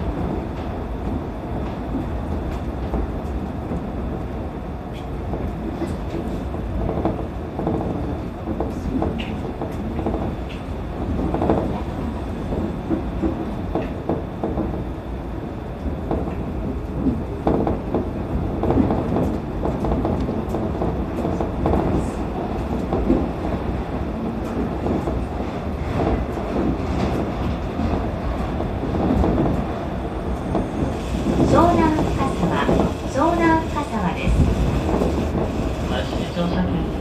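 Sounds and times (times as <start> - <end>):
monorail car rumbling: 0.0 - 37.0.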